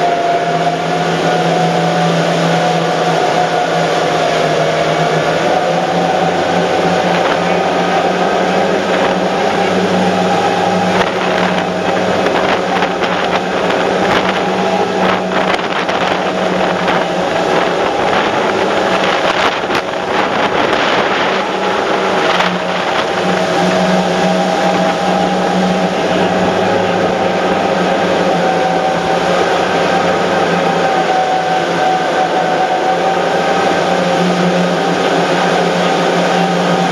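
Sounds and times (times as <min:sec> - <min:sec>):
boat engines droning: 0:00.0 - 0:36.9
churning wake water: 0:00.0 - 0:36.9.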